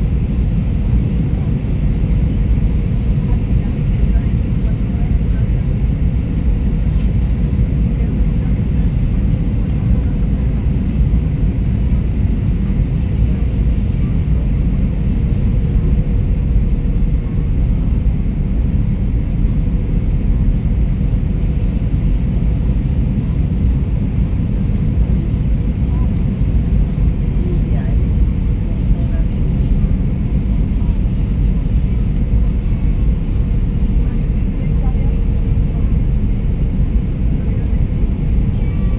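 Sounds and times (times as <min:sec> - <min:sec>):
aircraft engine and airflow rumble: 0:00.0 - 0:38.9.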